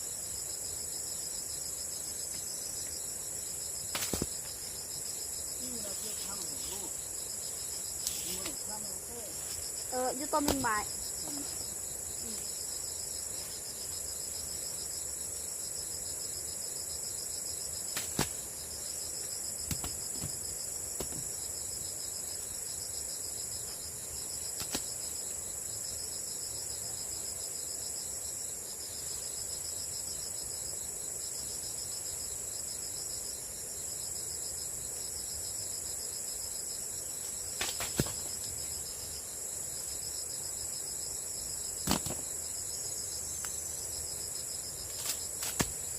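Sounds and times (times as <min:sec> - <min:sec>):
insects chirring: 0:00.0 - 0:45.9
pulsing insect trill: 0:00.0 - 0:45.9.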